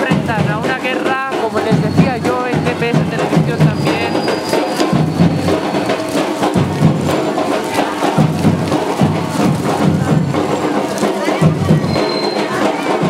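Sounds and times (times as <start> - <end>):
band playing: 0.0 - 13.0
rapid drum and wood-block strokes: 0.0 - 13.0.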